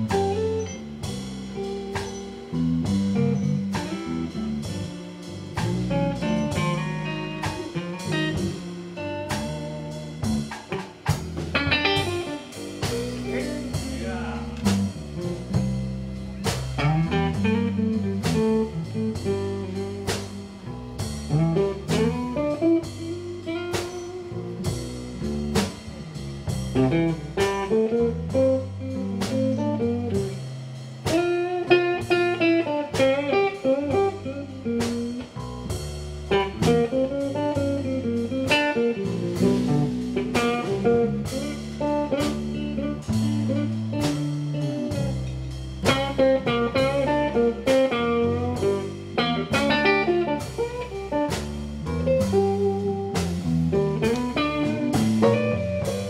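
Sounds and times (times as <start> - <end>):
drum kit: 0.0 - 56.0
electric bass: 0.0 - 56.0
electric guitar lead: 0.0 - 56.0.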